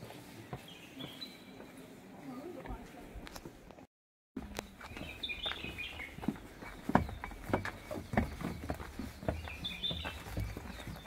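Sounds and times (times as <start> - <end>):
footsteps on stone path: 0.0 - 11.0
birds chirping: 0.4 - 3.2, 4.4 - 11.0.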